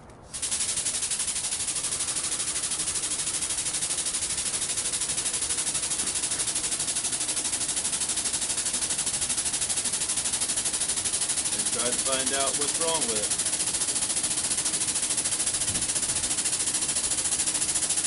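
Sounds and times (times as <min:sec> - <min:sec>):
truck jack pumping: 0:00.3 - 0:18.0.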